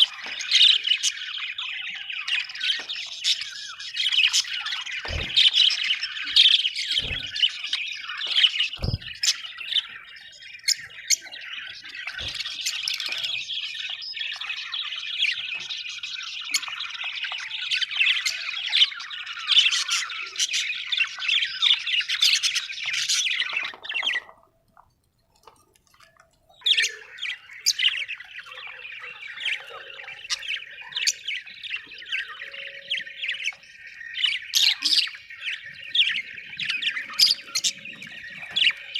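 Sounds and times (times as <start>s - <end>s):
budgerigars chirping and chattering: 0.0s - 24.4s, 26.5s - 38.9s.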